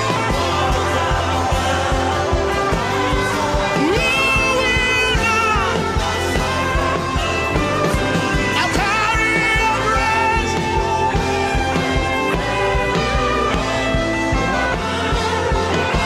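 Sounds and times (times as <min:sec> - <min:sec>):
keyboard chords: 0:00.0 - 0:16.0.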